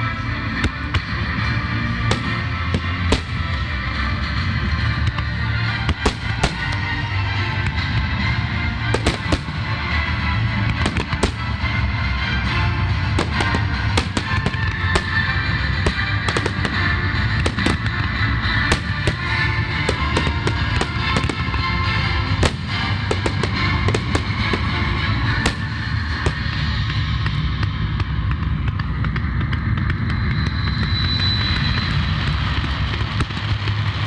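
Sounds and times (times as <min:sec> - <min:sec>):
music playing: 0:00.0 - 0:29.9
fireworks bursting: 0:01.9 - 0:07.9, 0:08.8 - 0:34.0.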